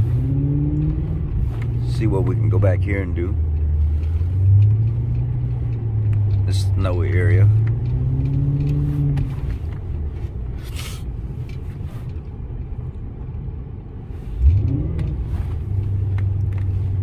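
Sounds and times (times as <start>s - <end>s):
car engine revving and droning: 0.0s - 17.0s.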